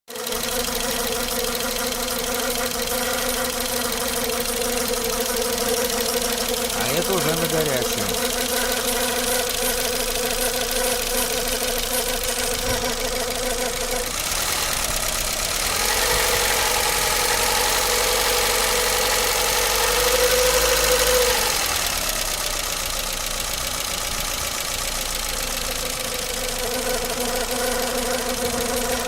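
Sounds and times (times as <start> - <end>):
car engine idling and revving: 0.2 - 29.0.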